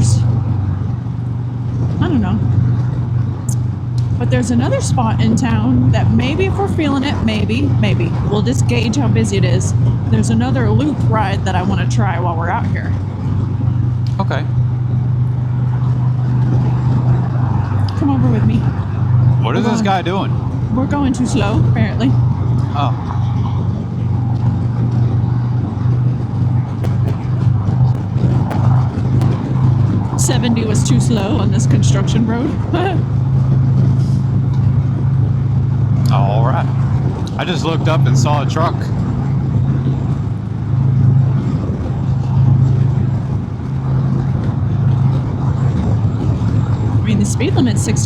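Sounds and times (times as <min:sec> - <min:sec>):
motorcycle engine drone: 0:00.0 - 0:48.0
road and wind rush: 0:00.0 - 0:48.0.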